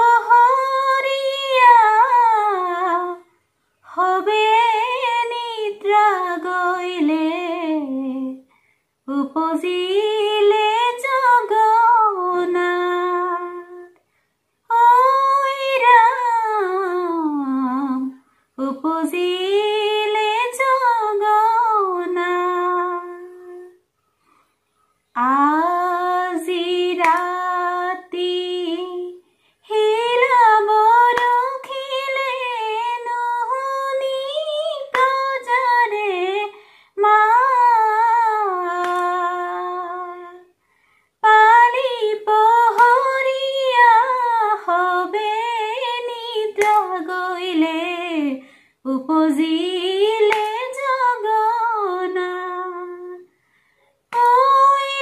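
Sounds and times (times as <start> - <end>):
woman singing unaccompanied: 0.0 - 8.5, 9.1 - 14.0, 14.6 - 23.8, 25.1 - 40.6, 41.2 - 53.3, 54.1 - 55.0.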